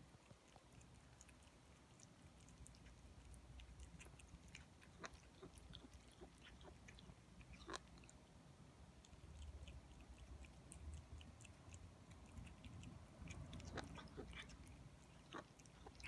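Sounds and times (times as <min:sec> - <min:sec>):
cat eating crunching clicks: 0:00.0 - 0:08.2, 0:09.0 - 0:16.0.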